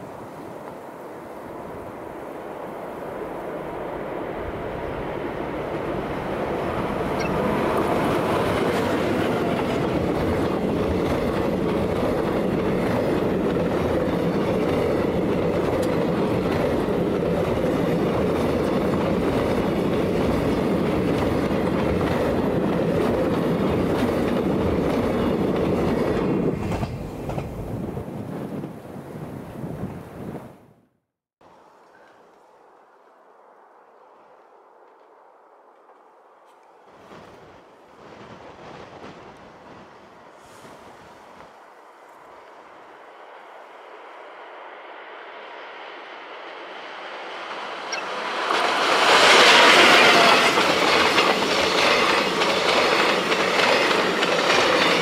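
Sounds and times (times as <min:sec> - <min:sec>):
train wheels rumbling on rails: 0:00.0 - 0:30.4, 0:34.8 - 0:55.0.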